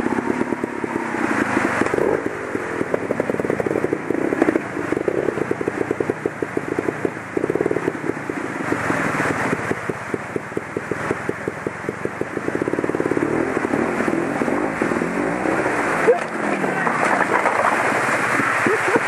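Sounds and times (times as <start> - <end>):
motorcycle engine popping: 0.0 - 19.0
waterfall rushing: 0.0 - 19.0.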